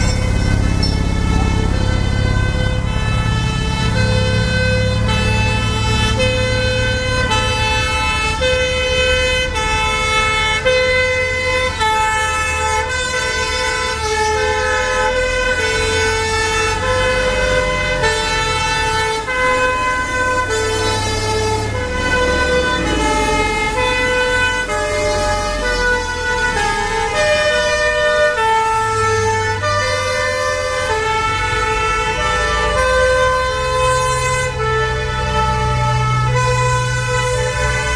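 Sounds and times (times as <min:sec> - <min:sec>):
two-tone sirens: 0:00.0 - 0:37.9
vehicle engines running: 0:00.0 - 0:37.9.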